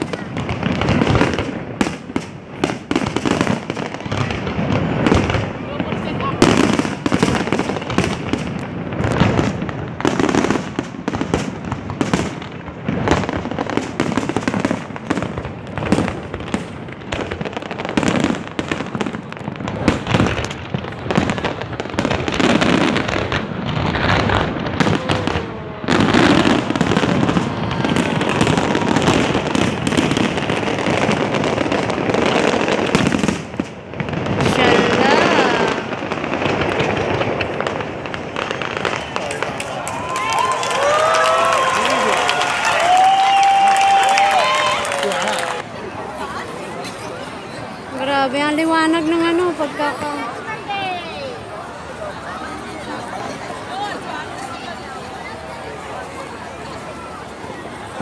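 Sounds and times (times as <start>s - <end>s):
firework bangs: 0.0s - 58.0s
fireworks crackling rumble: 0.0s - 58.0s.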